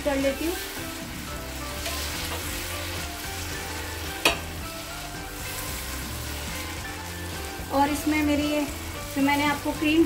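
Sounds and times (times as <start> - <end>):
chicken sizzling in a frying pan: 0.0 - 10.0
spatula stirring: 0.7 - 9.4.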